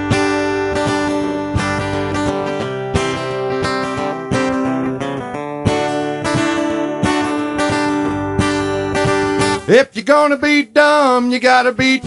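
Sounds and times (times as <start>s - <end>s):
acoustic guitar country music: 0.0s - 12.0s.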